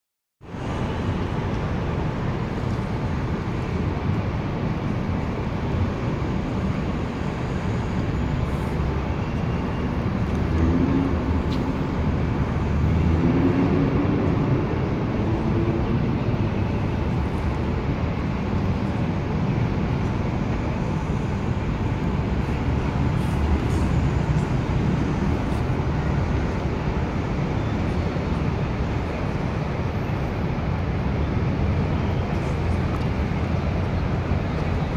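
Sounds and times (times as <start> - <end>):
city traffic rumble: 0.4 - 34.9.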